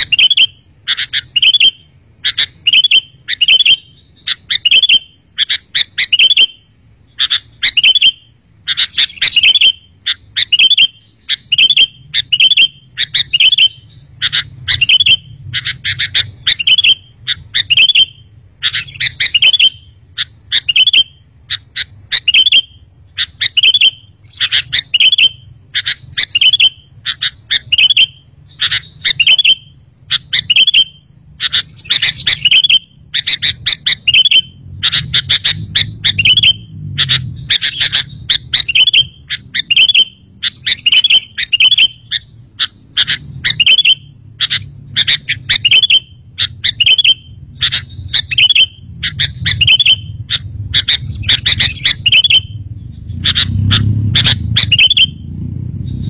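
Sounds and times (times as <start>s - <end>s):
bird chirping: 0.0s - 56.0s
faint low hum: 0.0s - 56.0s.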